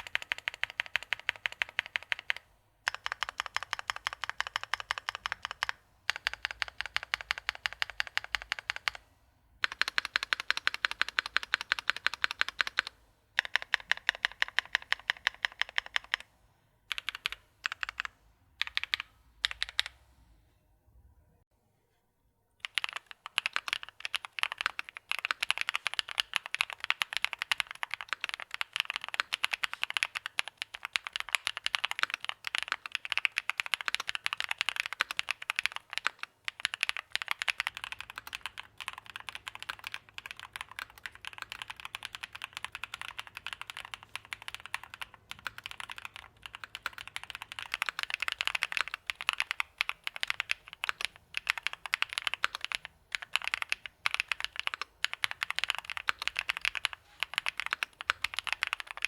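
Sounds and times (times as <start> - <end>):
fast mechanical keyboard typing: 0.0 - 9.0, 9.6 - 16.2, 16.9 - 19.9, 22.6 - 59.0.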